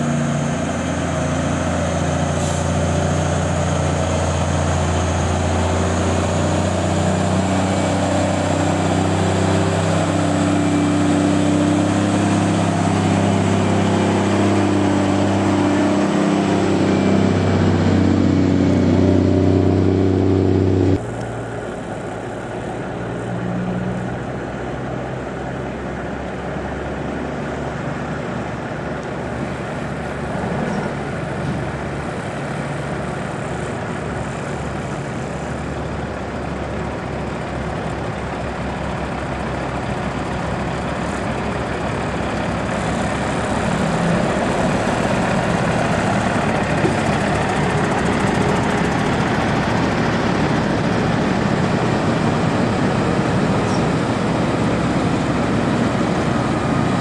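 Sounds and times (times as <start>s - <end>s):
diesel truck engines running: 0.0s - 57.0s.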